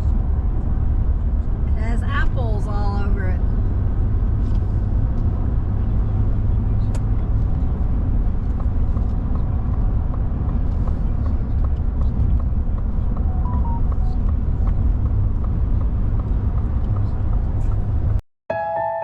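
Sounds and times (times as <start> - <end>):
car rumbling on the road: 0.0 - 18.2.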